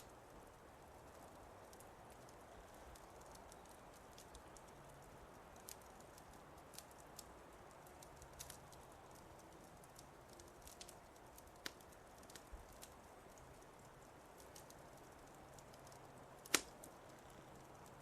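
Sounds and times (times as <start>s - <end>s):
fire hiss: 0.0s - 18.0s
wood fire crackling: 0.0s - 18.0s.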